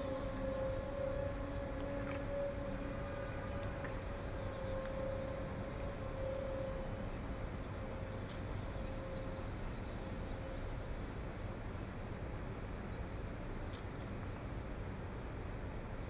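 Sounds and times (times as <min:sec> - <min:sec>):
faint steady tone: 0:00.0 - 0:13.4.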